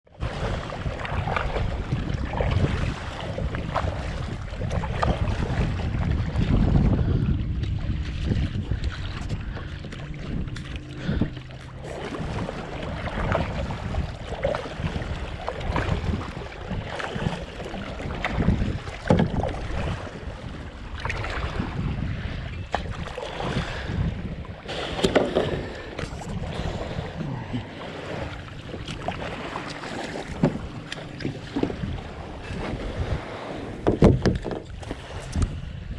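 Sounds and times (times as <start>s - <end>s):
paddle splashing water: 0.1s - 35.9s
wind buffeting microphone: 0.2s - 35.9s.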